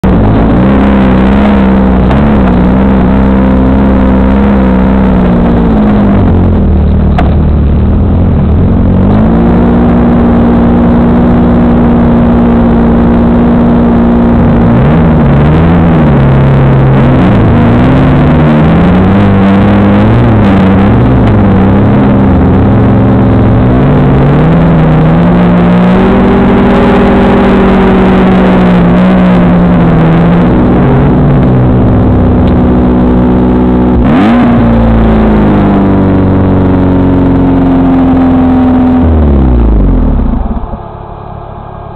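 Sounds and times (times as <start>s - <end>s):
buggy engine revving: 0.0s - 40.8s.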